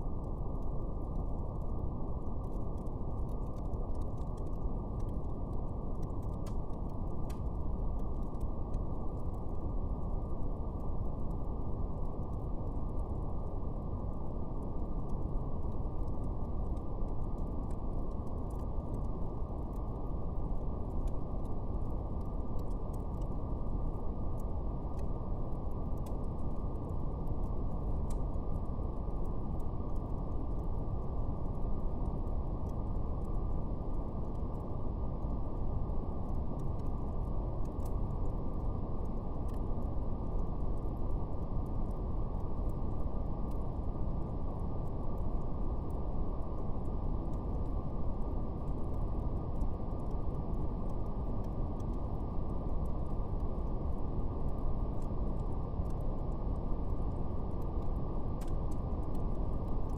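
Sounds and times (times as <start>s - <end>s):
faint fire crackles: 0.0s - 59.9s.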